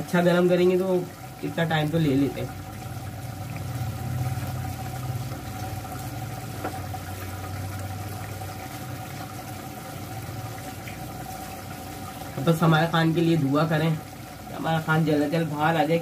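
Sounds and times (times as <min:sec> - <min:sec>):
curry bubbling in a pot: 0:00.0 - 0:16.0.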